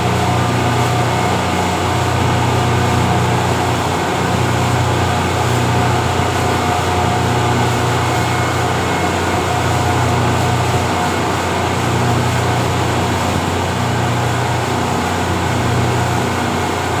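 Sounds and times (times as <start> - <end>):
speedboat engine running: 0.0 - 17.0.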